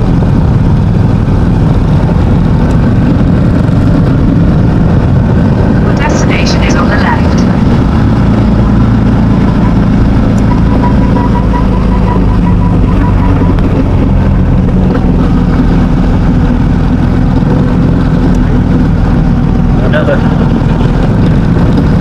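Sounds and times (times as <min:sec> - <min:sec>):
motorcycle engine running: 0:00.0 - 0:06.2, 0:07.2 - 0:22.0
road and wind noise: 0:00.0 - 0:22.0.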